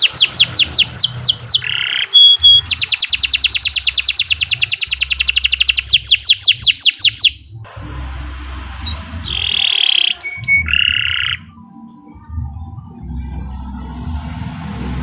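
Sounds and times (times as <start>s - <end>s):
canary trilling: 0.0s - 14.7s.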